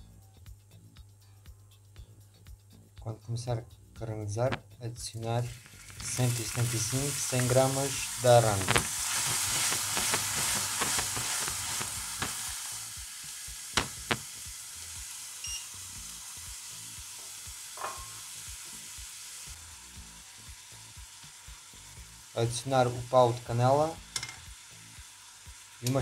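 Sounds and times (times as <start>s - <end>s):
syrup sizzling in a frying pan: 5.2s - 26.0s.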